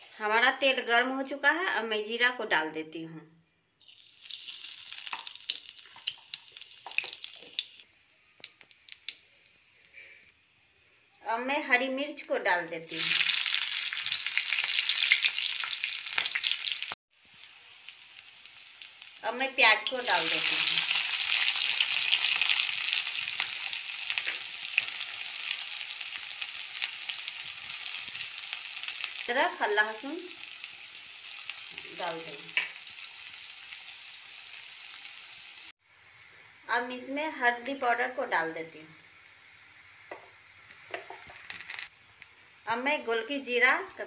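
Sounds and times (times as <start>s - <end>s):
seeds sizzling in hot oil: 3.8s - 41.9s.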